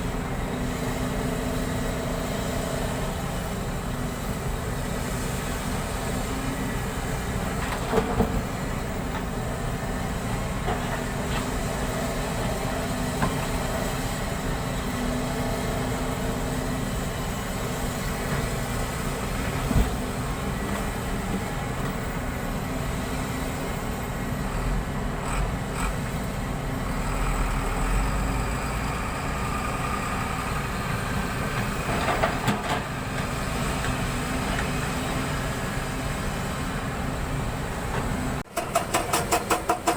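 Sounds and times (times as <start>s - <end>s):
vehicle running noise: 0.0s - 39.9s.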